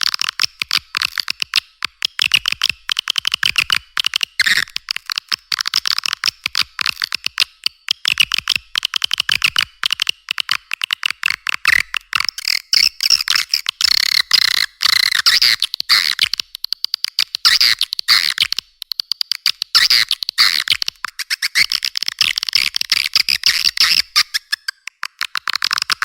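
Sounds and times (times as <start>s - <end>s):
swiftlet clicks and twittering chirps: 0.0s - 26.0s.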